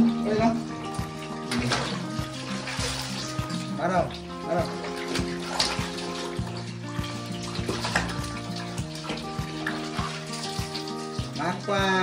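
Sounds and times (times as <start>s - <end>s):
background music: 0.0s - 12.0s
tap water pouring into basin: 0.0s - 12.0s
water splashing: 0.0s - 12.0s.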